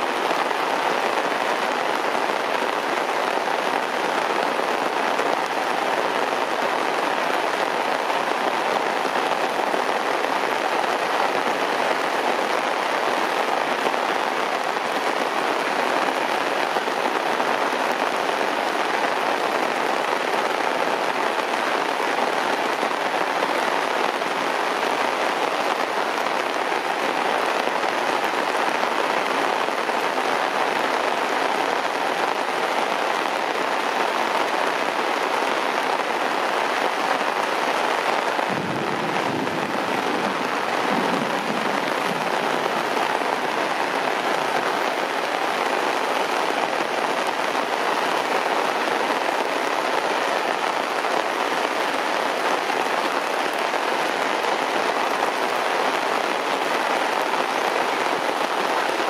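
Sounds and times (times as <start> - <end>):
heavy rain on grass and concrete: 0.0 - 59.0.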